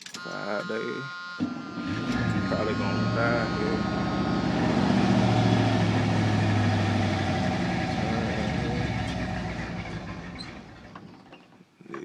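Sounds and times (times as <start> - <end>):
car engine idling and stalling: 1.4 - 11.5.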